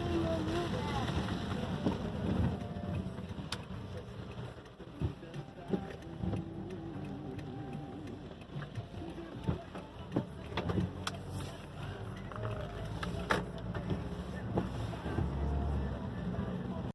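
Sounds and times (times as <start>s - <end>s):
scattered clicks: 0.1s - 14.0s.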